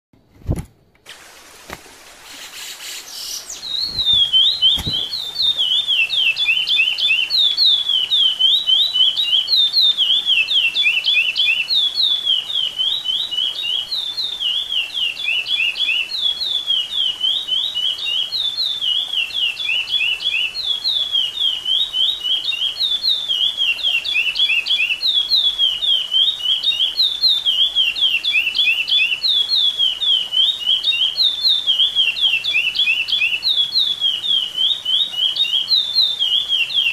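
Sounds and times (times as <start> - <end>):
finch singing: 2.4 - 36.9.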